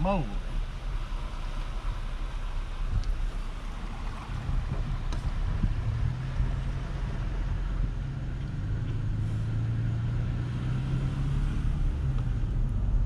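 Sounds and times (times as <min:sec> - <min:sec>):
pickup engine low hum: 0:00.0 - 0:13.0.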